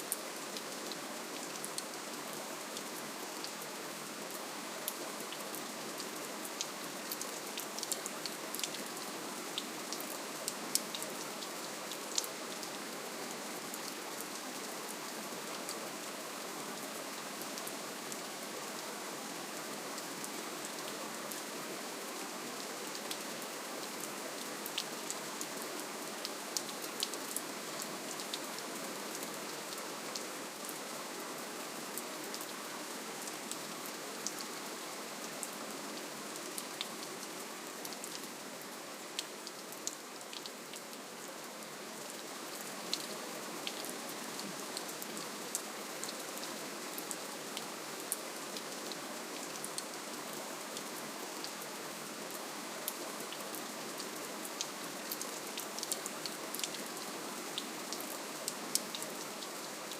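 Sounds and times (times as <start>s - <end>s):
gentle rain hiss: 0.0s - 59.9s.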